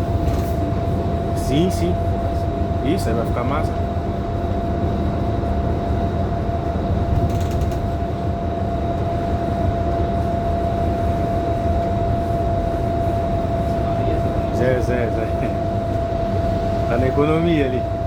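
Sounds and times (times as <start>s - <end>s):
bus engine and road rumble: 0.0s - 18.0s
constant whining tone: 0.0s - 18.0s.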